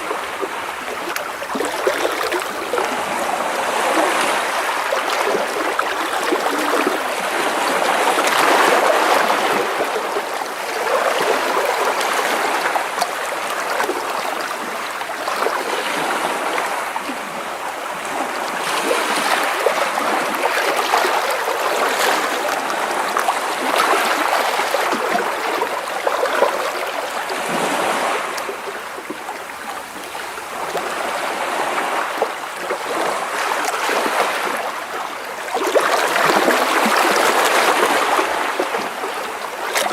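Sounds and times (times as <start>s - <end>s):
waves splashing against rocks: 0.0s - 17.2s, 17.9s - 39.9s.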